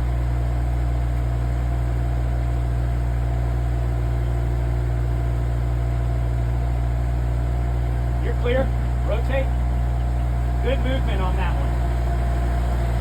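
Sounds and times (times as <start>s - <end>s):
excavator diesel engine droning: 0.0s - 13.0s.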